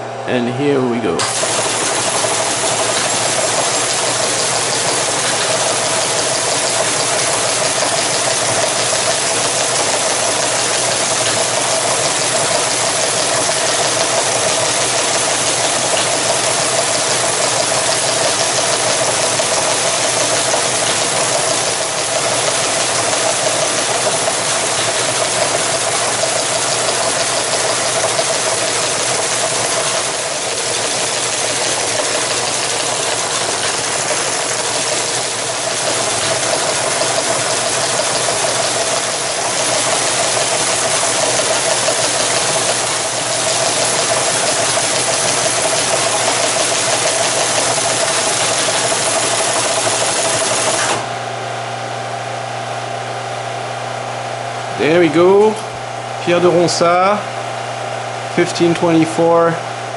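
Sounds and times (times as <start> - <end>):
motor hum: 0.0 - 59.9
teleprinter mechanical clatter: 1.2 - 51.1.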